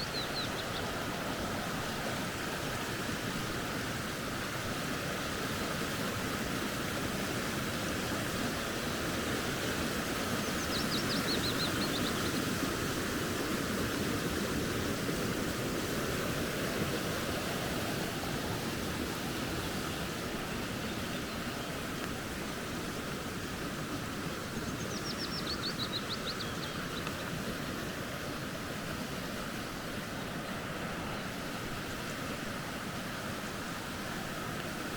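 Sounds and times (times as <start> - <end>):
creek flowing: 0.0 - 34.9.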